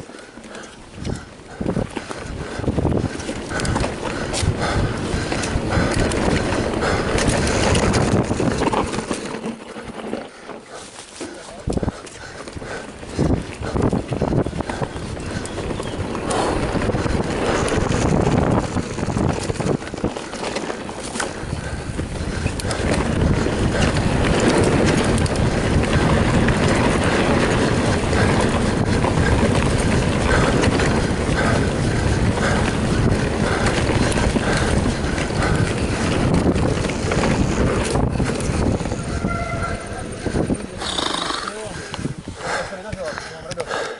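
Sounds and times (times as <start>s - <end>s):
wind buffeting microphone: 0.0s - 10.5s, 11.4s - 43.9s
bike tyres on dirt trail: 0.0s - 43.9s
bike knocks and rattles: 1.0s - 39.2s.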